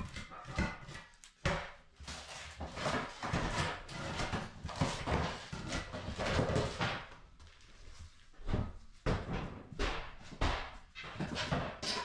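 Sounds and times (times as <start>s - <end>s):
flooring scraping and knocking: 0.0s - 12.0s.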